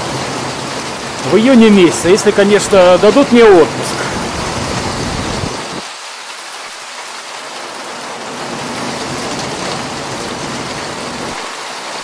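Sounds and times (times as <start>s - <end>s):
heavy rain on paving and puddles: 0.0s - 12.0s.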